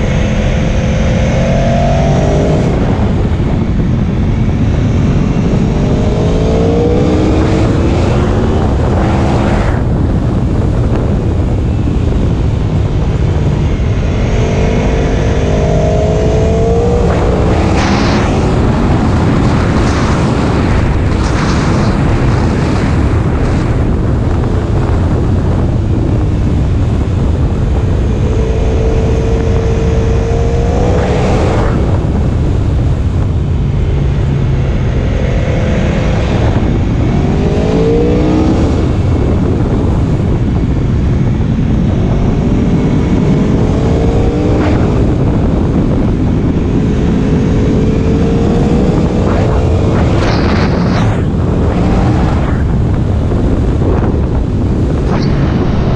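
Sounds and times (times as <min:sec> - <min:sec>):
heavy wind rush: 0:00.0 - 0:55.9
motorcycle engine accelerating: 0:00.0 - 0:55.9.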